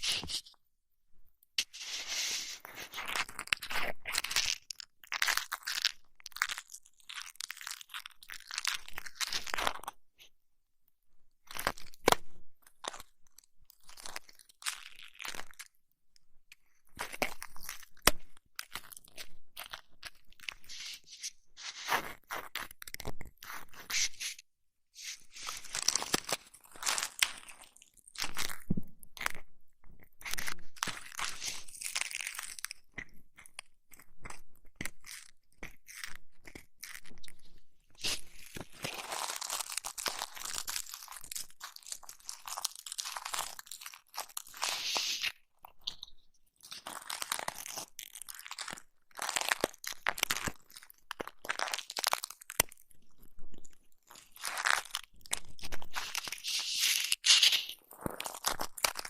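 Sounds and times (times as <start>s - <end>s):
crunchy rubbing and scratching: 0.0s - 0.6s, 1.6s - 9.9s, 17.0s - 24.4s, 25.0s - 59.0s.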